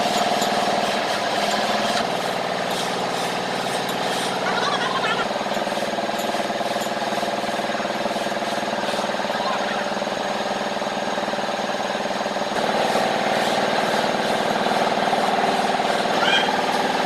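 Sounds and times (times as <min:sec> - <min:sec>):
machinery pulsing hum: 0:00.0 - 0:17.0.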